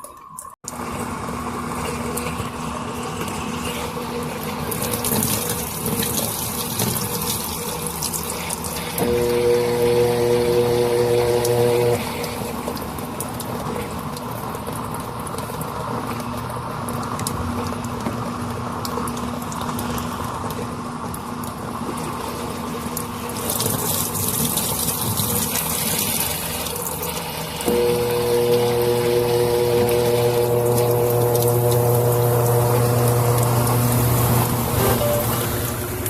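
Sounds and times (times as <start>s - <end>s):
water sloshing in washing machine: 0.0s - 36.0s
pump motor humming: 0.7s - 20.7s, 21.4s - 36.0s.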